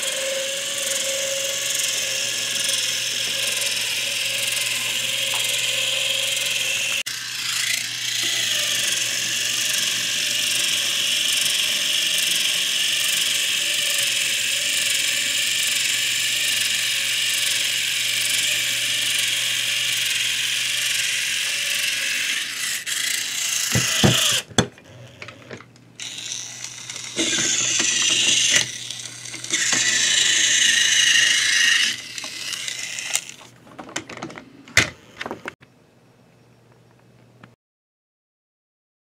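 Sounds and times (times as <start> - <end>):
toy train motor whirring: 0.0 - 35.6.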